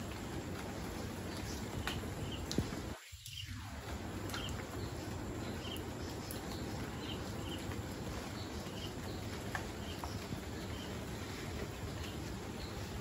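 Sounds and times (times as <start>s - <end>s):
rain falling on foliage: 0.0s - 13.0s
water drips ticking: 0.0s - 13.0s.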